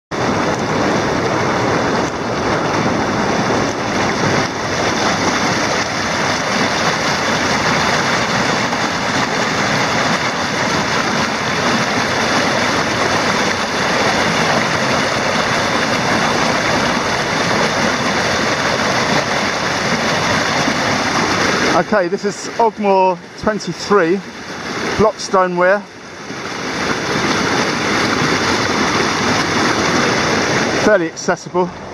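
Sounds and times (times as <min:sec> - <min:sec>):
river rushing over weir: 0:00.1 - 0:31.9.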